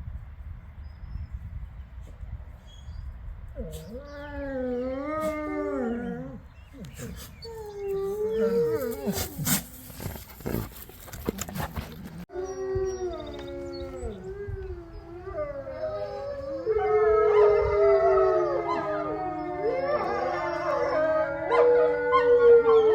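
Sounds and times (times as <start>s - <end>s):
wolves howling: 3.6s - 22.9s.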